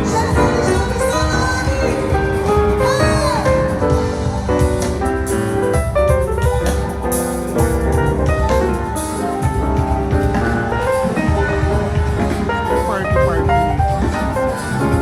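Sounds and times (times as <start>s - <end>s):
piano-led music with steady beat: 0.0s - 15.0s.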